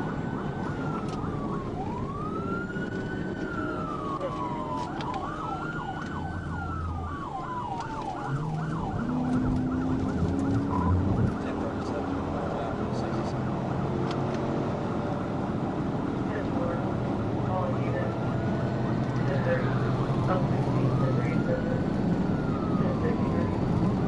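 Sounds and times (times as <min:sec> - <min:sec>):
police siren wailing and yelping: 0:00.0 - 0:13.3, 0:17.4 - 0:24.0
engine and road noise: 0:00.0 - 0:24.0.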